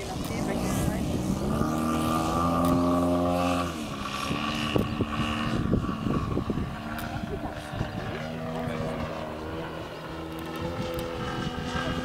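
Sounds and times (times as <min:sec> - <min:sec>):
model plane engine at high throttle: 0:00.0 - 0:12.0.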